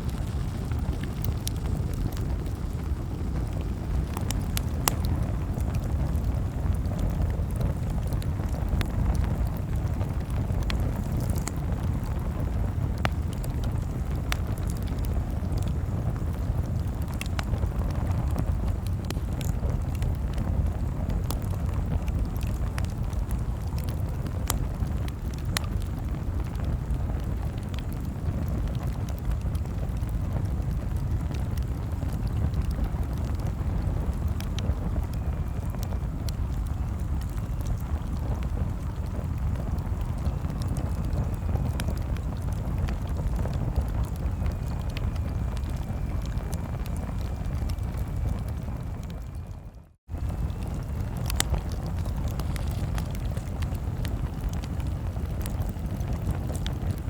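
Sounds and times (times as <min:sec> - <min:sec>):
campfire crackling: 0:00.0 - 0:57.0
low fire rumble: 0:00.0 - 0:57.0.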